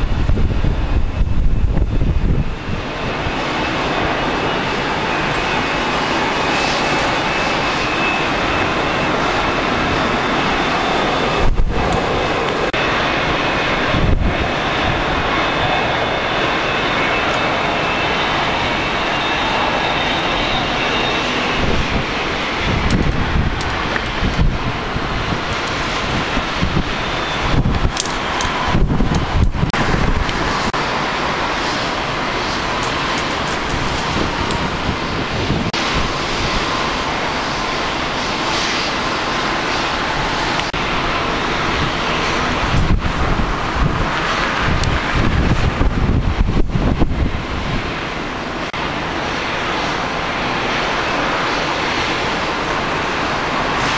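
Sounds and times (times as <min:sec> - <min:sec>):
jet engines rushing: 0:00.0 - 0:53.9.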